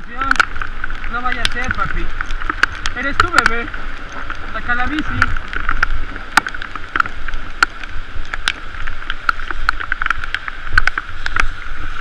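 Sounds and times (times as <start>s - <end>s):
raindrops ticking on camera: 0.0s - 12.0s
wind rumbling on microphone: 0.0s - 12.0s.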